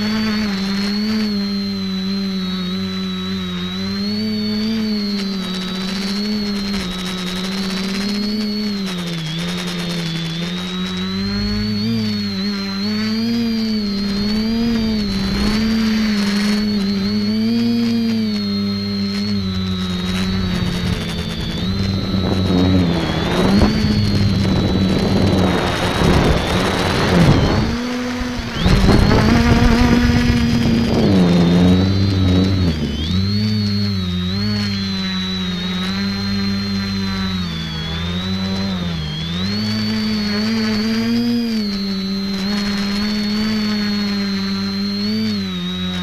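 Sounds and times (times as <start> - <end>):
drone motors buzzing whine: 0.0 - 46.0.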